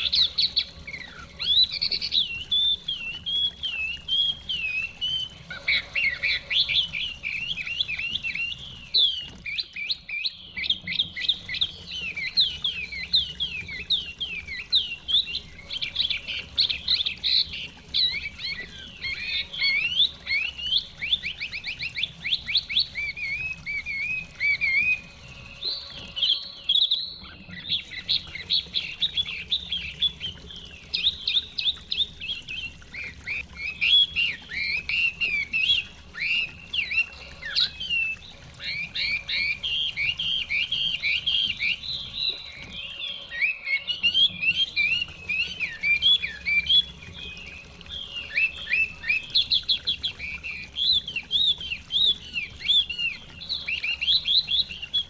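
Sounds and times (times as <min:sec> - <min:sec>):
bird singing whistled notes: 0:00.0 - 0:15.9, 0:17.4 - 0:55.0.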